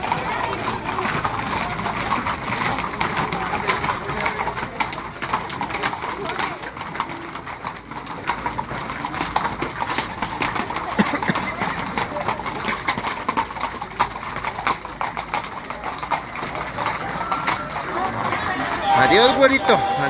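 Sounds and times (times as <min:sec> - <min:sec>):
horse hooves clip-clopping on pavement: 0:00.0 - 0:20.0
people's voices: 0:00.0 - 0:20.0.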